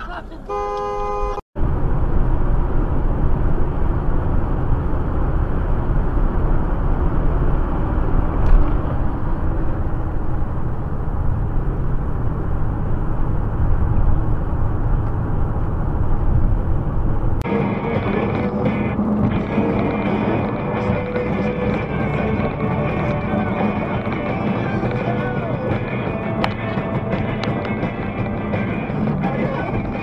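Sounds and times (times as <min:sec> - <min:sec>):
car road noise from cabin: 0:00.0 - 0:30.0.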